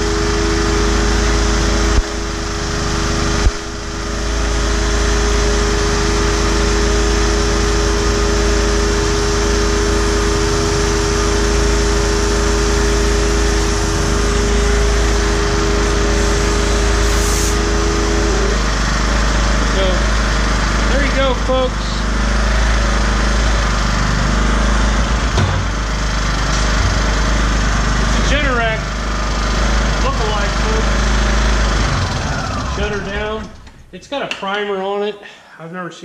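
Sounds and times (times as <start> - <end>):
air compressor humming: 0.0 - 34.1
generator running: 0.0 - 34.1.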